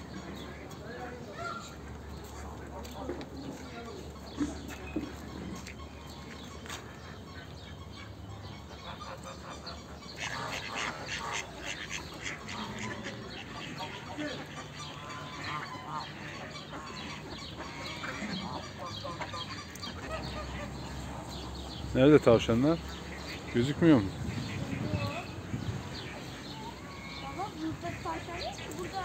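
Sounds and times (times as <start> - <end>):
waterfowl calling: 0.0 - 29.0.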